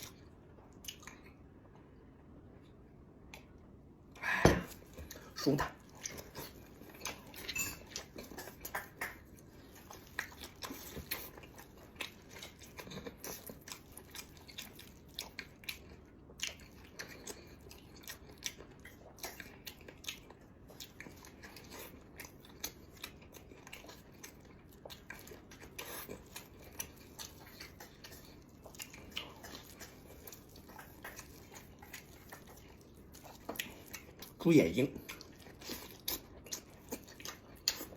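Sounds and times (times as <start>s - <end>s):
chewing and biting food: 0.0s - 1.8s, 4.6s - 37.9s.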